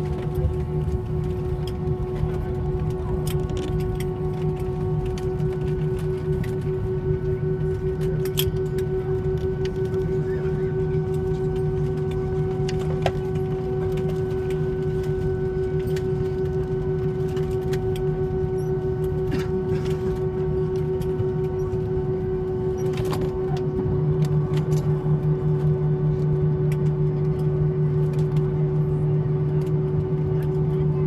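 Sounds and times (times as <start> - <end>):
aircraft engine drone: 0.0 - 31.0
low cabin hum: 0.0 - 31.0.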